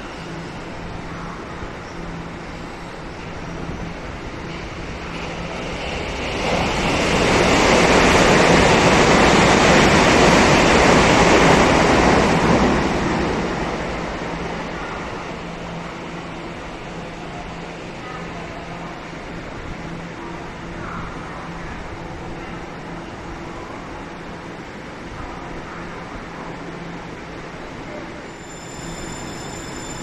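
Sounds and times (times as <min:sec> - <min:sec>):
train passing at speed: 0:00.0 - 0:30.0.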